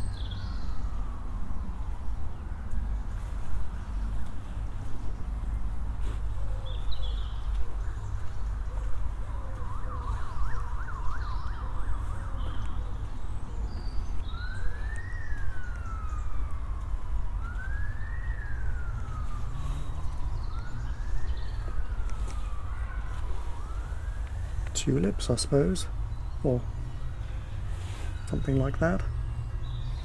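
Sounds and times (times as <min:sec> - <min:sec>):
distant emergency siren: 0:00.0 - 0:04.6, 0:05.7 - 0:30.0.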